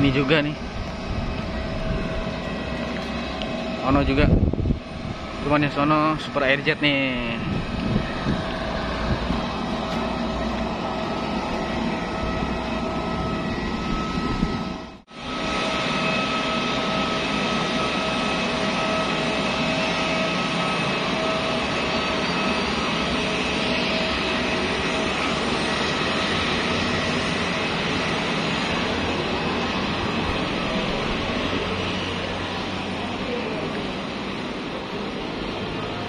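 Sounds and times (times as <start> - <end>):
jet engine whine: 0.0 - 36.0.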